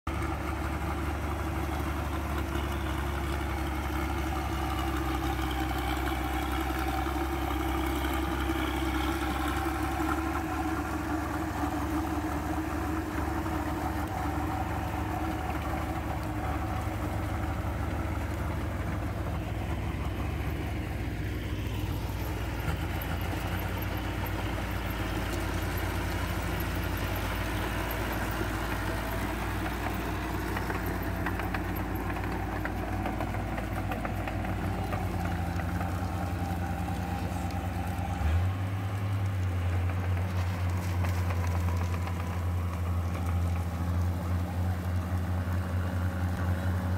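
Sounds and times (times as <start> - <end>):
tractor engine running under load: 0.0 - 46.9.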